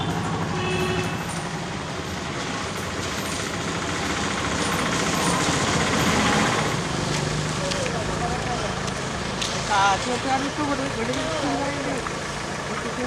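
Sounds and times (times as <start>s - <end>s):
small engine humming: 0.0s - 13.0s.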